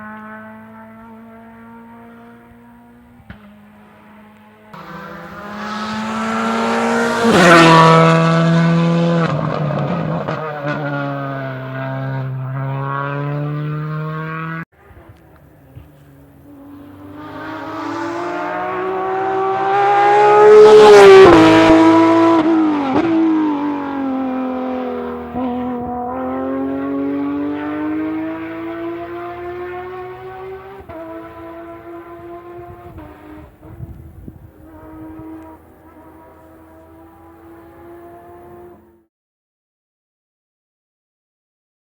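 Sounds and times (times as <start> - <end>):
rally car engine pulling away: 0.0 - 39.0
rally car passing and accelerating: 0.0 - 39.1.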